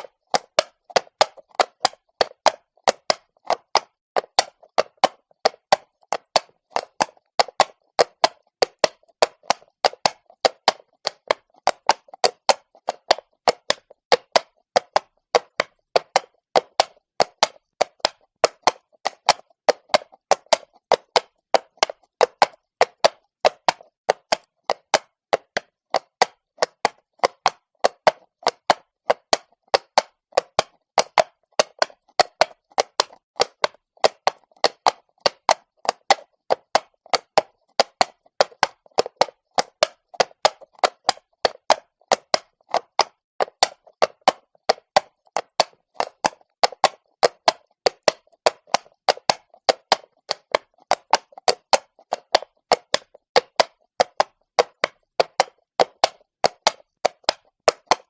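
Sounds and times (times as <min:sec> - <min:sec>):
horse hooves clopping on stone: 0:00.0 - 0:58.0.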